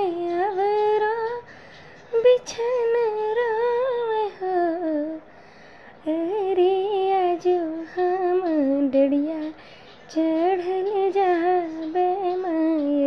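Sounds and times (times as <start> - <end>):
woman singing unaccompanied: 0.0 - 5.3, 6.0 - 13.0.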